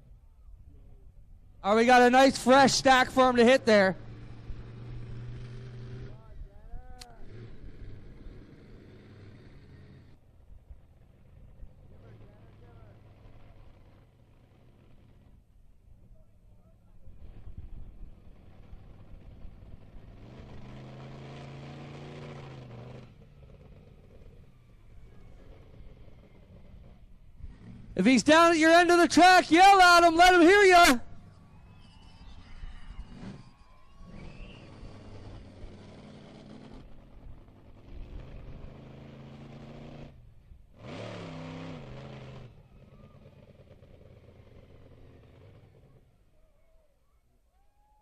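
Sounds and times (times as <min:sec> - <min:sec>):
monster truck engine revving: 0:01.6 - 0:10.2, 0:10.8 - 0:16.1, 0:17.0 - 0:46.4.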